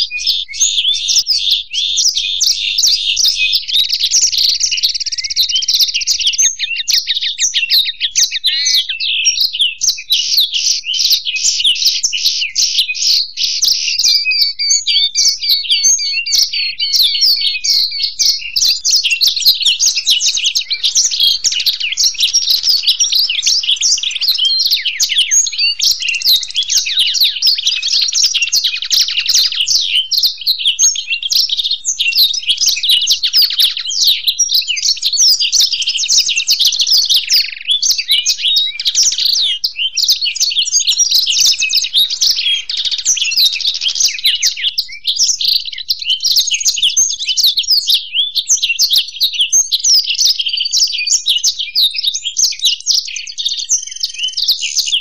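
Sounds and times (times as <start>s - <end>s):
birds twittering and trilling: 0.0s - 55.0s.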